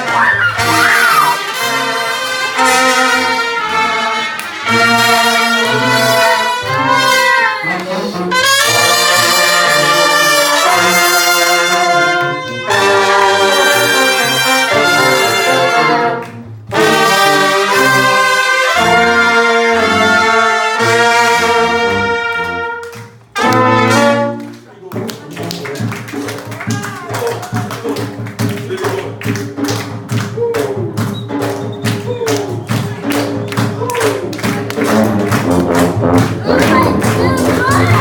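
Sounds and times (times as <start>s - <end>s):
brass band playing: 0.0s - 38.0s.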